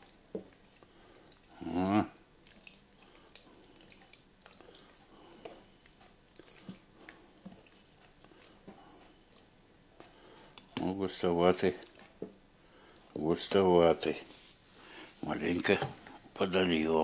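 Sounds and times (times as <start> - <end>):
soft wet squishes: 0.0 - 16.6.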